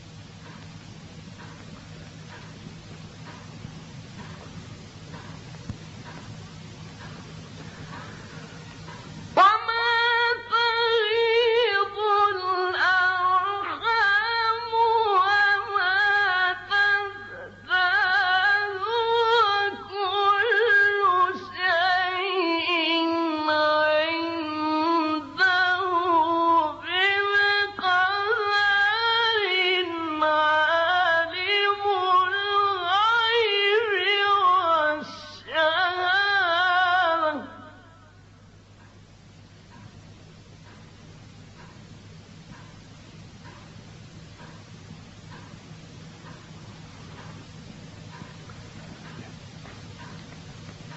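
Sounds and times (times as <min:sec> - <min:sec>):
low steady hum: 0:00.0 - 0:50.9.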